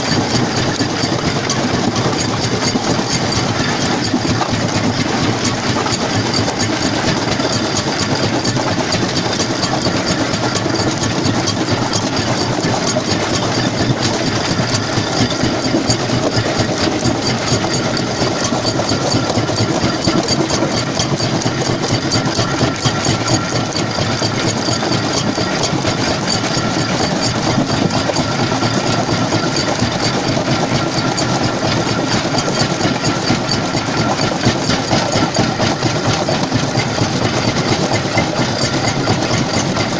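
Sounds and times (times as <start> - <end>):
rock crusher clattering: 0.0 - 39.9.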